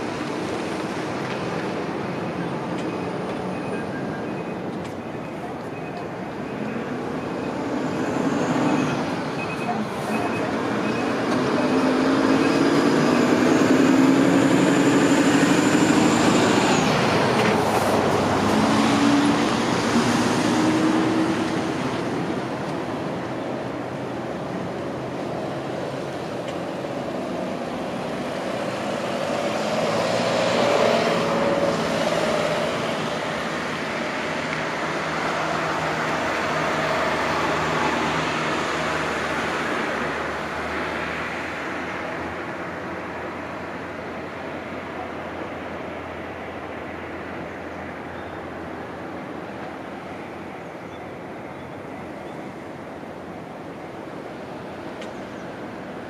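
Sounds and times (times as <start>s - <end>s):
passing vehicles rumbling: 0.0s - 56.0s.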